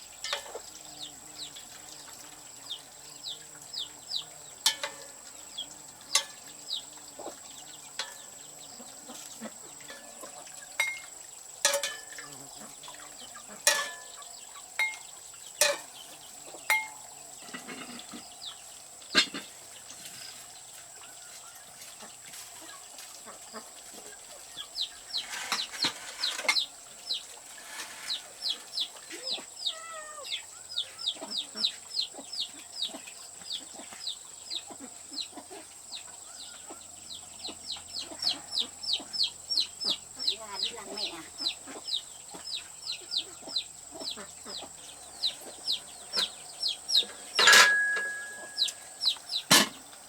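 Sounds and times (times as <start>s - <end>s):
chicks peeping: 0.3s - 11.4s, 20.0s - 50.0s.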